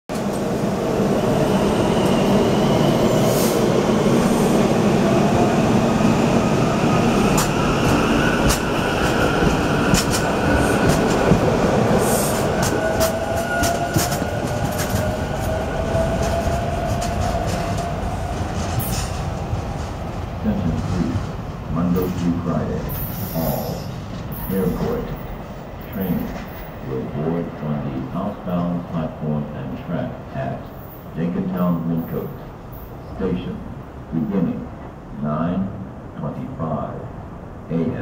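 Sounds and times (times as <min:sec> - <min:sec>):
wheels rumbling on rail: 0:00.1 - 0:38.0.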